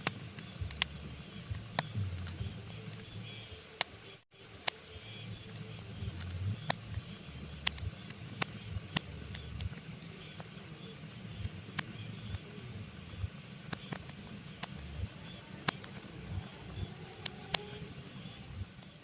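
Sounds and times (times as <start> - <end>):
fire crackles and pops: 0.0 - 4.0, 4.6 - 19.0
fire rumbling and hissing: 0.0 - 19.0.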